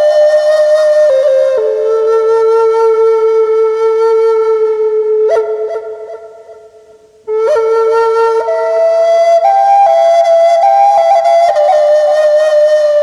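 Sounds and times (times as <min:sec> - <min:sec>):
native american flute melody: 0:00.0 - 0:13.0.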